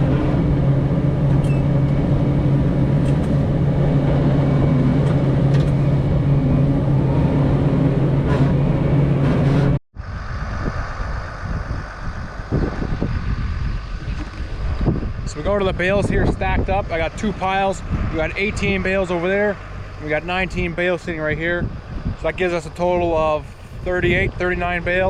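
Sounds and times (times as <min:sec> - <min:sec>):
tractor diesel engine running: 0:00.0 - 0:25.0
wind buffeting microphone: 0:00.0 - 0:25.0.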